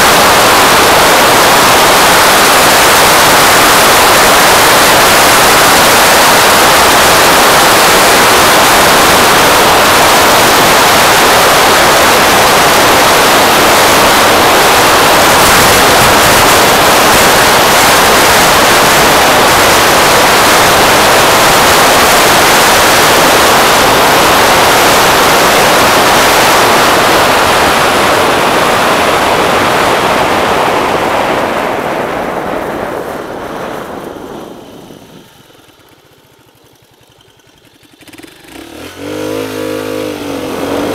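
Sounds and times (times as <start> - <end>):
wind roaring over microphone: 0.0 - 36.1, 38.8 - 40.9.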